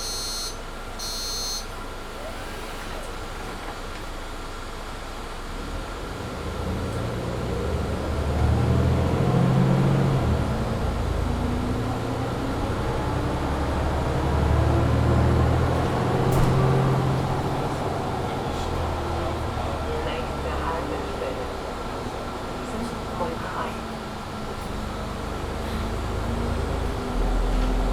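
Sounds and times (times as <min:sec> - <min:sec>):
bus diesel engine accelerating: 0:01.7 - 0:27.9.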